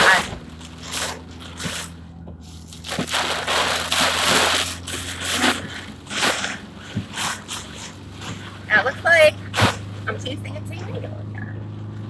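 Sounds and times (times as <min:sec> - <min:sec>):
car low hum: 0:00.0 - 0:12.0
heavy rain and wind on car: 0:00.0 - 0:12.0.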